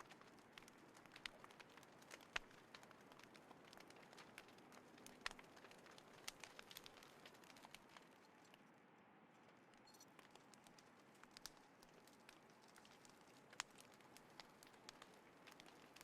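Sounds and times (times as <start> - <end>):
wood fire crackling: 0.0 - 8.6, 9.4 - 16.0.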